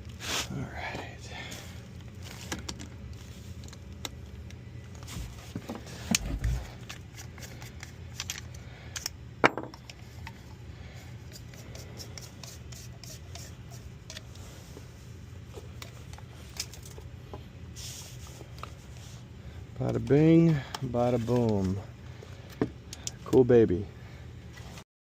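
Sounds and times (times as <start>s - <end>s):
air conditioner humming: 0.0s - 24.8s.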